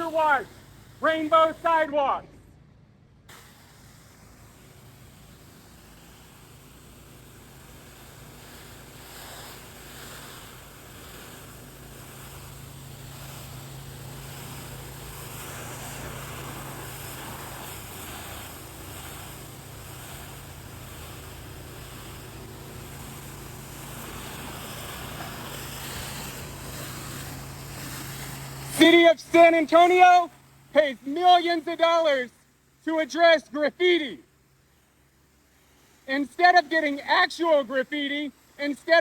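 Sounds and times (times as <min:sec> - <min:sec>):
water spray hissing: 0:00.0 - 0:02.2, 0:03.2 - 0:39.0
pressure washer engine hum: 0:00.0 - 0:39.0.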